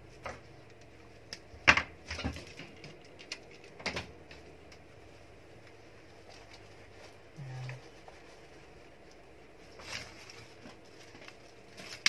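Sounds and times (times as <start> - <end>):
artificial flowers rustling: 2.1 - 12.0.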